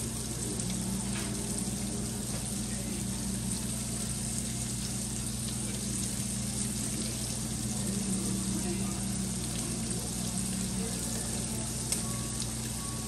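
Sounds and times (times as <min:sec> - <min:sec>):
bacon sizzling in a skillet: 0:00.0 - 0:13.0.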